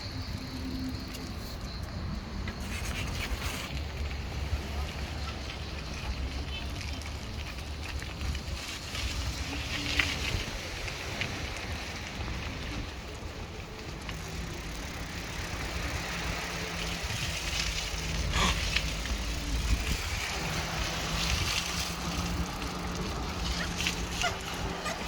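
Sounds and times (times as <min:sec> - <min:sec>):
bicycle tyres rolling on paving: 0:00.0 - 0:25.0
wind rumbling on microphone: 0:00.0 - 0:25.0.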